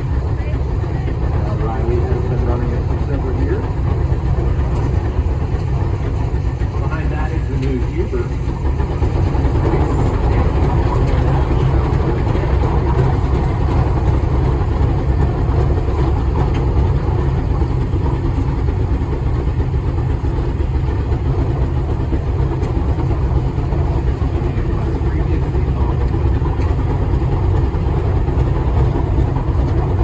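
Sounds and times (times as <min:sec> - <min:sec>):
engine machinery rumbling: 0:00.0 - 0:30.0.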